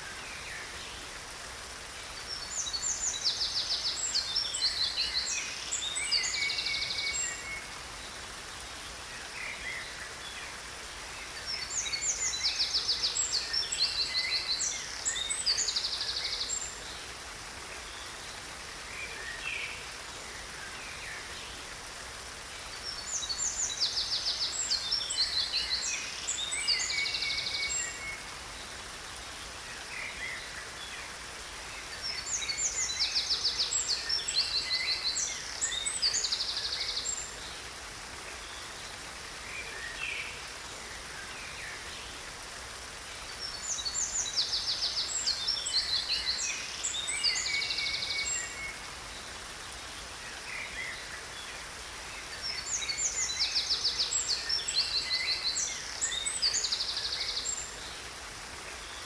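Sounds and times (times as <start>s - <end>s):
songbirds trilling and chirping: 0.0s - 59.0s
waterfall rushing: 0.0s - 59.0s.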